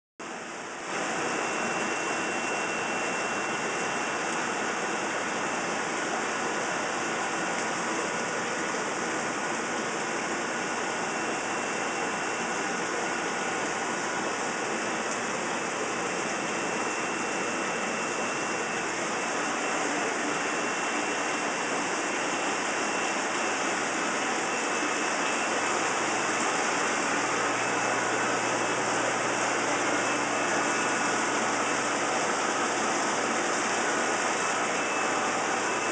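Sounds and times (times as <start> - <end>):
aquarium water rushing: 0.2 - 35.9
faint high whine: 0.5 - 35.9.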